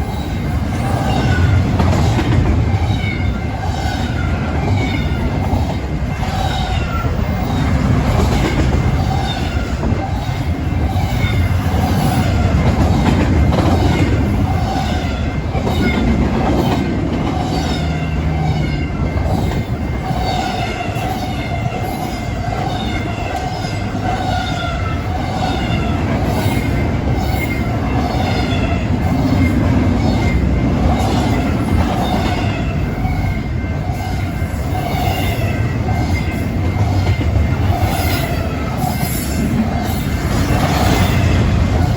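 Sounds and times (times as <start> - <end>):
freight train rumble and wheel clatter: 0.0 - 41.9.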